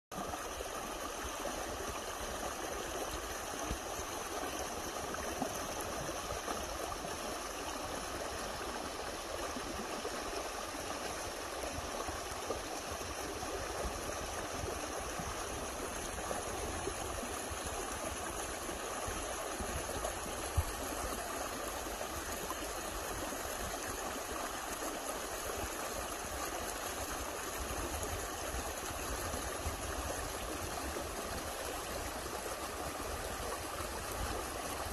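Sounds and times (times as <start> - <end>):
stream rushing over stones: 0.1 - 34.9.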